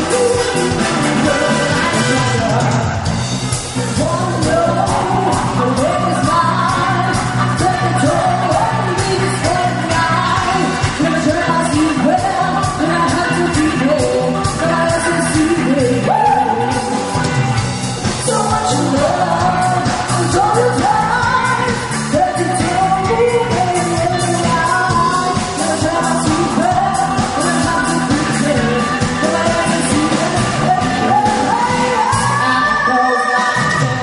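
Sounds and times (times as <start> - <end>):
lead singer singing: 0.0 - 34.0
pop-rock band playing: 0.0 - 34.0.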